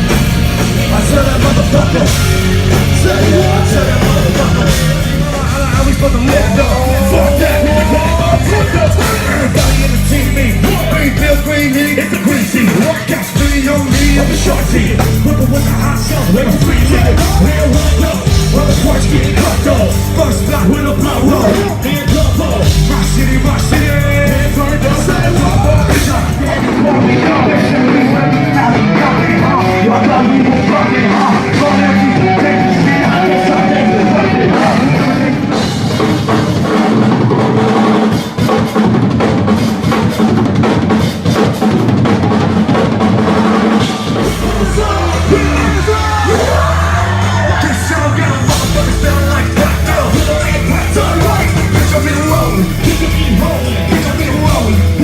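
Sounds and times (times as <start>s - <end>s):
deep bass: 0.0s - 12.7s, 13.4s - 36.0s, 44.1s - 55.0s
live rap-rock band: 0.0s - 55.0s
sung and yelled vocals: 0.0s - 55.0s.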